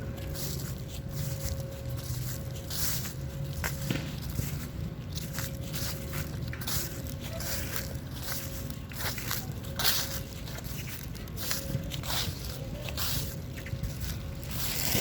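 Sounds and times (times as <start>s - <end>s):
footsteps rustling outdoors: 0.0s - 15.0s.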